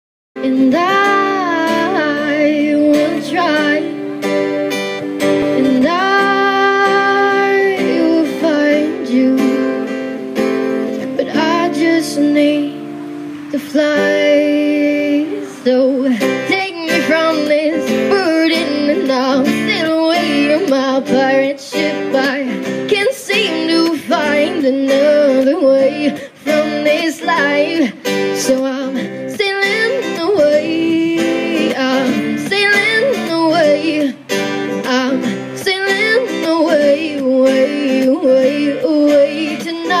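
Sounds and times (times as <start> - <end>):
acoustic guitar: 0.4 - 40.0
woman singing: 0.4 - 40.0.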